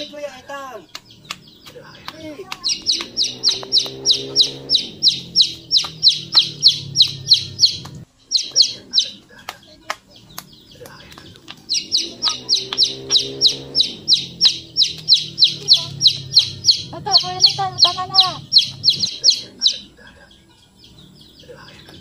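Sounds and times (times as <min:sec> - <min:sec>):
bird chirping rapidly: 0:00.0 - 0:22.0
low hum: 0:01.0 - 0:09.3, 0:10.2 - 0:22.0.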